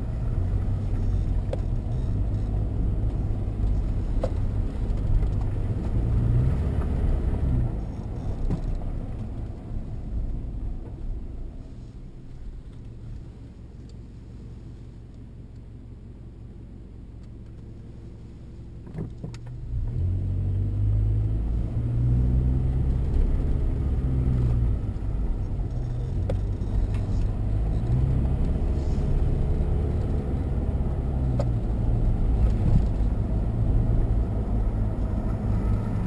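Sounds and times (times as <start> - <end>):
car engine hum: 0.0 - 36.0
road noise: 0.0 - 36.0.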